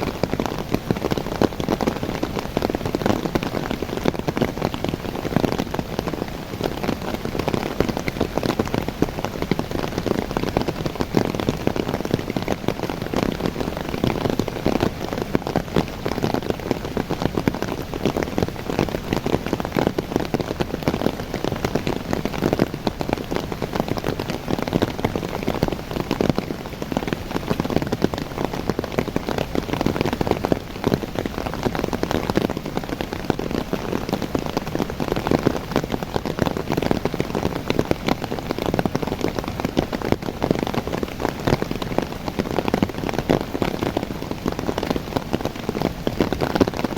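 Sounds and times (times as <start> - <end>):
rain pattering on leaves: 0.0 - 46.9.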